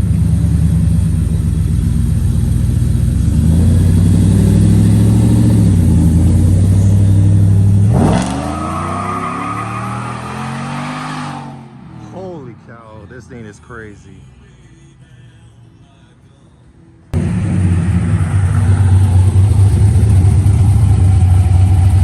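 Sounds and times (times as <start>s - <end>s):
pickup engine rumbling and revving: 0.0s - 12.8s, 17.2s - 22.0s.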